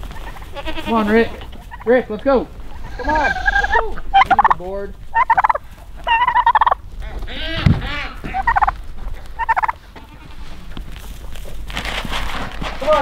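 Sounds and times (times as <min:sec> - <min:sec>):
turkey gobbling: 0:00.0 - 0:12.2.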